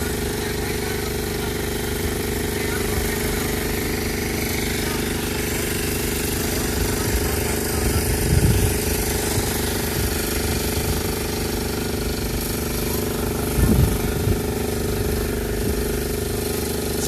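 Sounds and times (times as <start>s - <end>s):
motor running with even pulsing: 0.0s - 17.0s.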